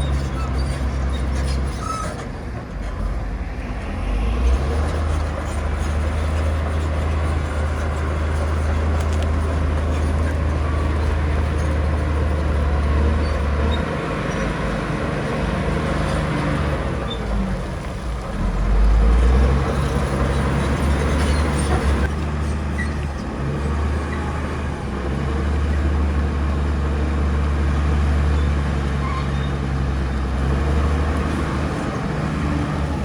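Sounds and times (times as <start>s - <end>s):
heavy diesel machinery engine drone: 0.0s - 33.0s.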